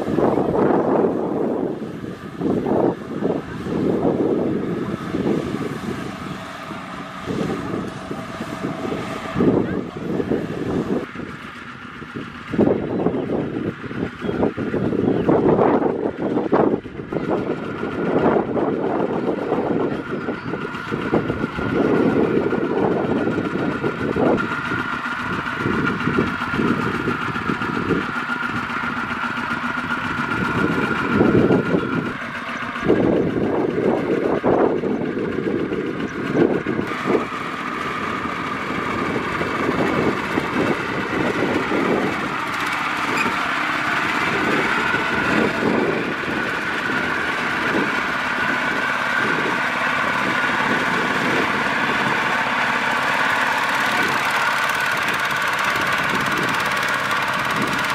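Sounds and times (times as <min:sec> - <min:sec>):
combine harvester engine rumble: 0:00.0 - 0:57.9
high whine: 0:00.0 - 0:57.9.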